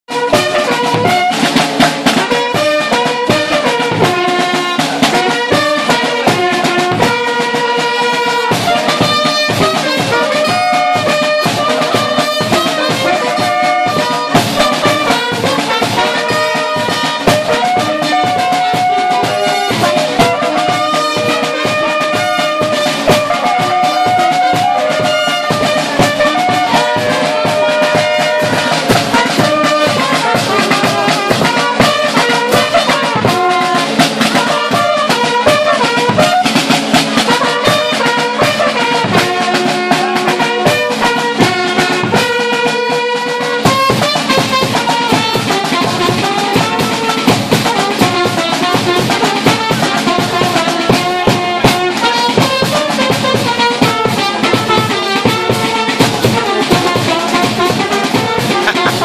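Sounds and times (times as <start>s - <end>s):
brass melody: 0.0s - 59.0s
fast drumming: 0.1s - 59.0s.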